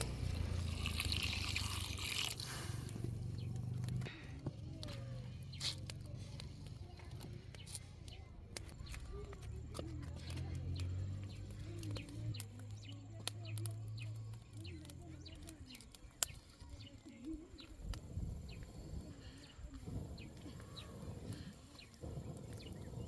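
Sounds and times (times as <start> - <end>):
low rumbling: 0.0 - 15.7, 17.8 - 23.0
small birds chirping: 0.0 - 23.0.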